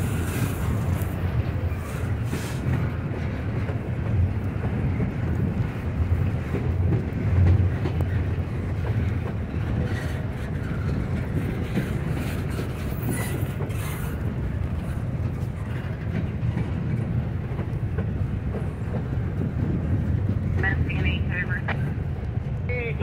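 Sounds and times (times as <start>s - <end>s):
wheels clicking over rail joints: 0.0s - 20.6s
train wheels rumbling on rail: 0.0s - 23.0s.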